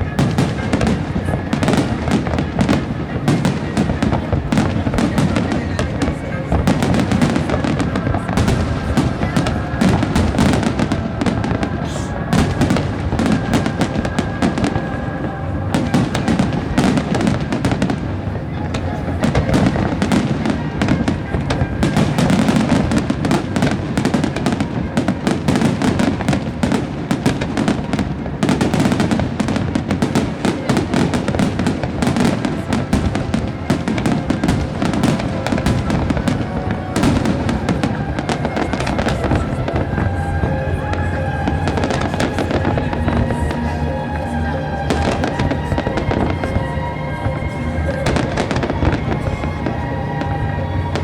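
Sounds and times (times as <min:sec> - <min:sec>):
deep fireworks booms: 0:00.0 - 0:51.0
fireworks bangs and crackles: 0:00.0 - 0:51.0
music with sustained tones: 0:00.0 - 0:51.0.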